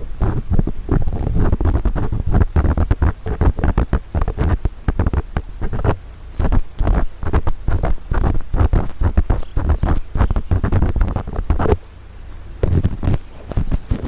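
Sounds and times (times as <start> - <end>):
deep rumbles at the mic: 0.0 - 14.0
earpick scraping on microphone: 0.0 - 14.0.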